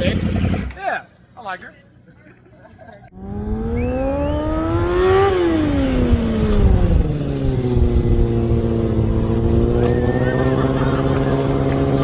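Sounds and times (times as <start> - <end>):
motorcycle engine revving: 0.0 - 0.8, 3.1 - 12.0.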